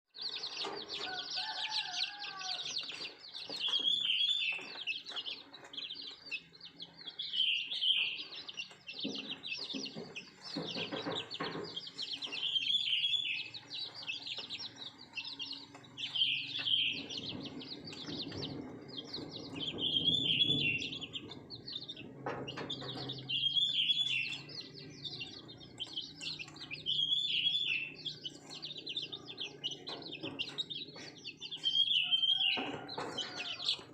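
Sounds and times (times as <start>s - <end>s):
chicks peeping and chirping: 0.2s - 33.9s
hens clucking: 0.4s - 33.9s.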